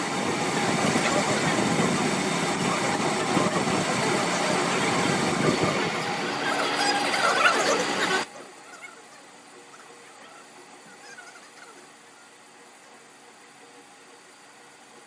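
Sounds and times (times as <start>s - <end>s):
machine droning: 0.0s - 15.0s.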